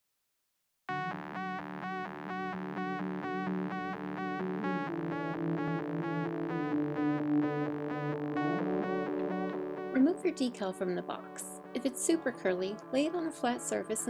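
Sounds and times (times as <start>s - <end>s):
electronic synth music: 0.9s - 14.0s.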